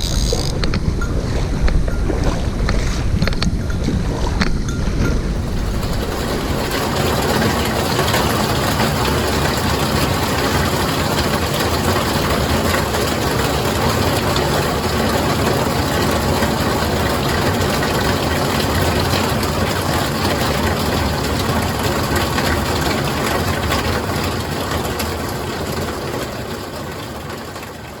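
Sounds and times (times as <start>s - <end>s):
running water rushing: 0.0s - 28.0s.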